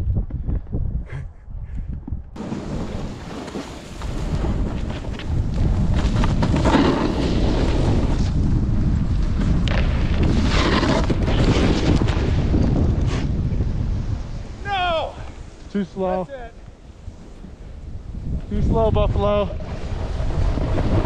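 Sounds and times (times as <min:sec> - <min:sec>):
wind rushing over microphone: 0:00.0 - 0:21.0
snowboard scraping icy snow: 0:02.4 - 0:18.3, 0:19.5 - 0:21.0.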